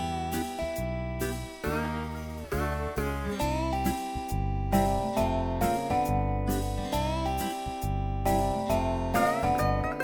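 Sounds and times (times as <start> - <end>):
light guitar-led music: 0.0 - 10.0.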